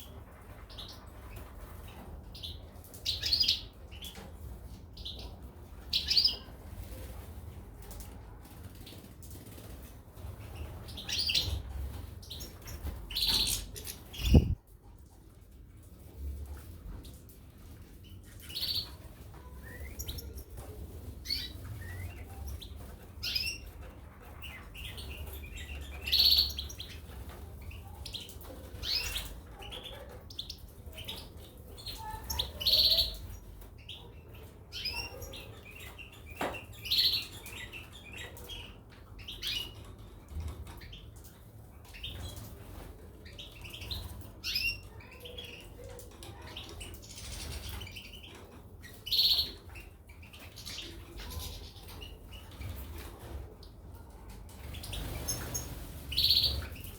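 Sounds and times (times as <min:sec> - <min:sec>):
caged birds chirping: 0:00.0 - 0:56.9.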